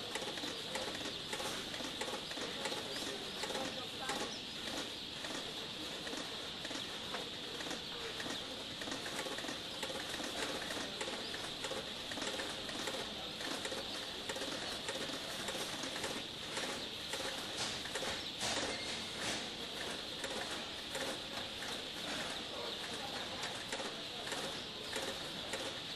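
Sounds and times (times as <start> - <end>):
chicks peeping: 0.0 - 25.9.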